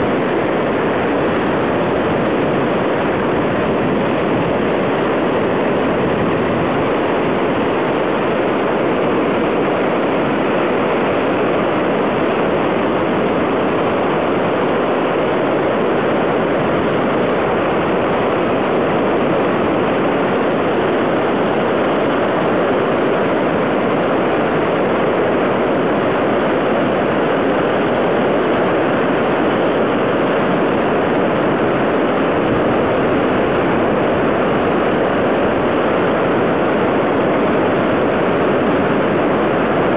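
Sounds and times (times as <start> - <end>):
river torrent roaring: 0.0 - 39.9.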